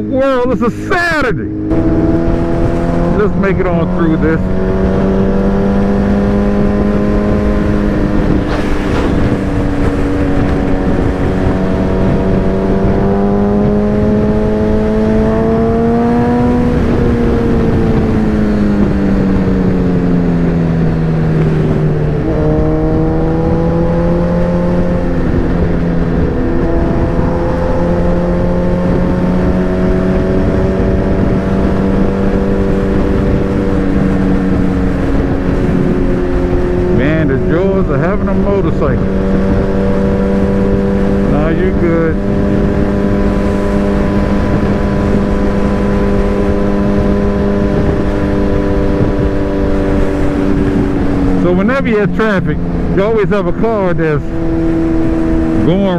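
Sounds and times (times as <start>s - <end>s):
motorcycle engine cruising: 0.0s - 55.9s
wind rush: 0.0s - 55.9s.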